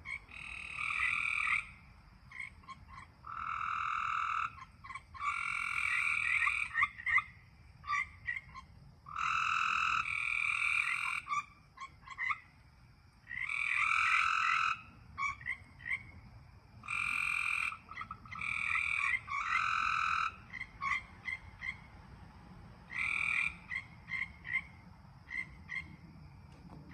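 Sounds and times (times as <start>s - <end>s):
frogs chirping: 0.0s - 26.9s
frogs trilling: 0.0s - 26.9s.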